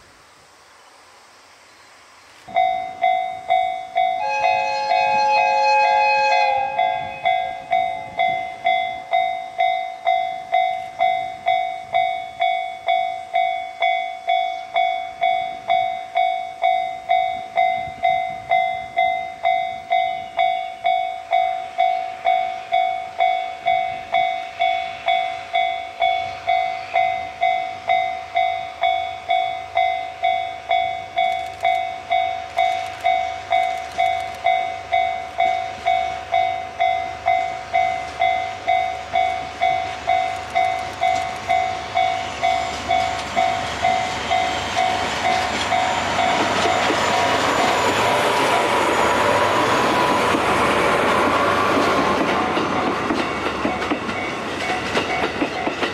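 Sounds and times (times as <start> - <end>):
diesel locomotive engine: 0.0 - 55.9
train wheels on rails: 0.0 - 55.9.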